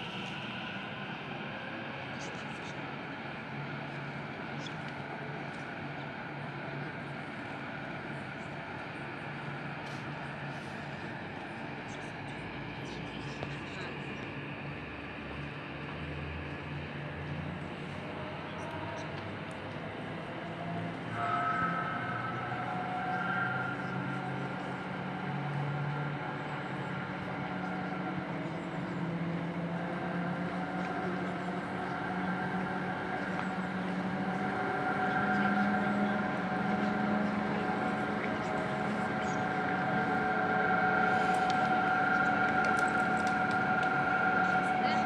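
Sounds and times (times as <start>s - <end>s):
cable car mechanical hum: 0.0s - 45.0s.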